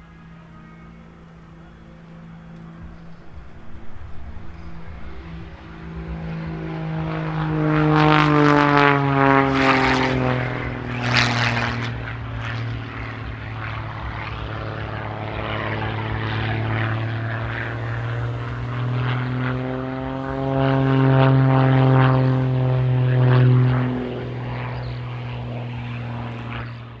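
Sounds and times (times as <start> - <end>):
propeller plane flying past: 0.0 - 27.0.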